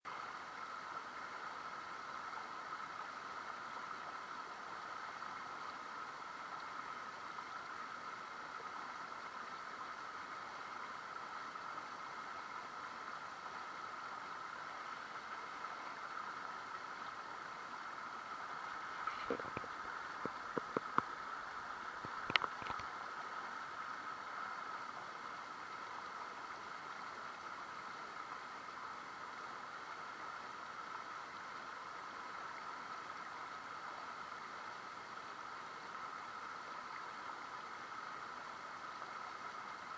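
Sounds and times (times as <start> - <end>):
river water flowing: 0.1 - 39.9.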